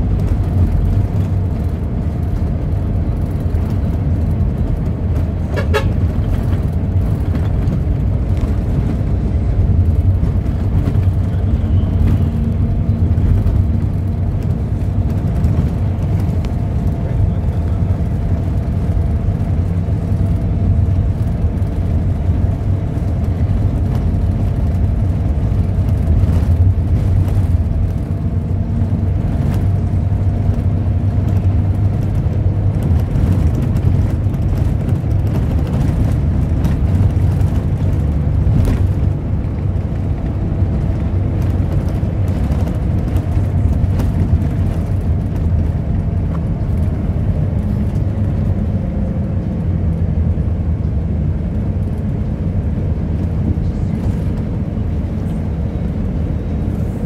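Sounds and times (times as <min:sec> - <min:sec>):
vehicle engine and tyre rumble: 0:00.0 - 0:57.0.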